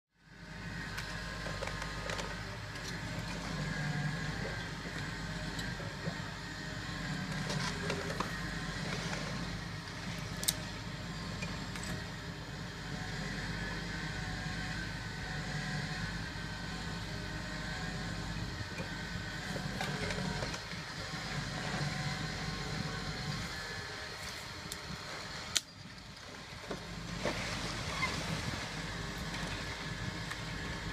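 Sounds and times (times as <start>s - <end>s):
excavator diesel engine running: 0.2s - 30.9s.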